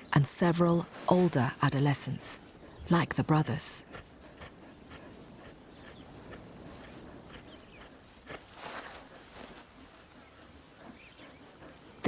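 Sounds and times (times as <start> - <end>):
high insect drone: 0.8 - 12.0.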